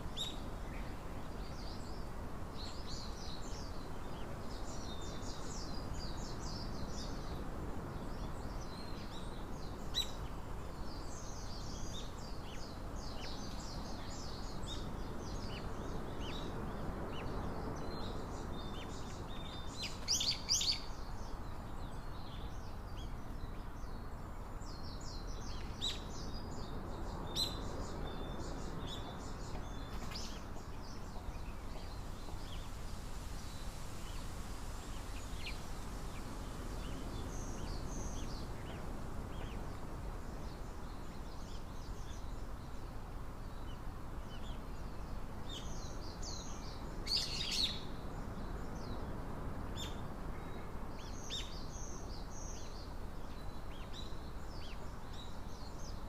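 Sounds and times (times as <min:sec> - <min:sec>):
low background noise: 0:00.0 - 0:56.0
small birds chirping: 0:00.0 - 0:56.0.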